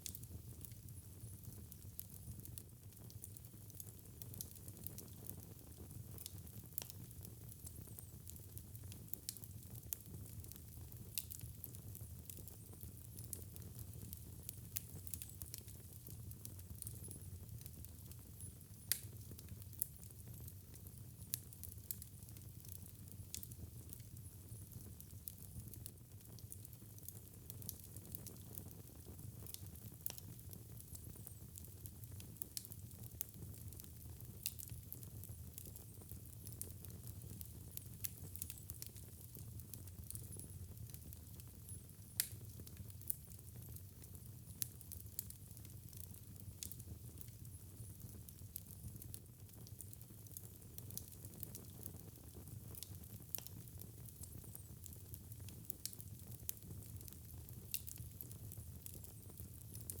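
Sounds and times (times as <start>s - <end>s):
low rumble of flames: 0.0s - 60.0s
wood fire crackles and pops: 0.0s - 60.0s.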